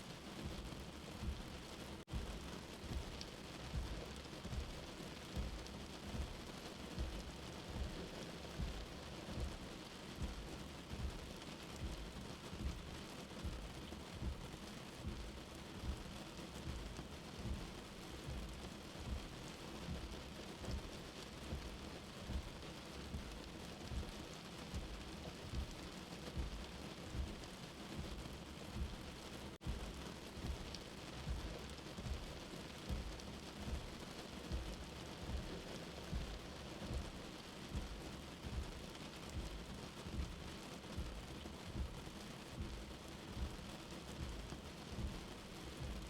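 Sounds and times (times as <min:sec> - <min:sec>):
steady rain: 0:00.0 - 0:46.0
low heartbeat thumping: 0:00.4 - 0:46.0.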